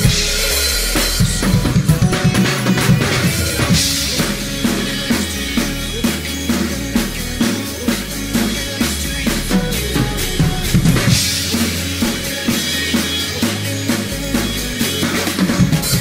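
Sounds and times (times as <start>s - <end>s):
drum kit groove: 0.0s - 16.0s
recorded pop song: 0.0s - 16.0s.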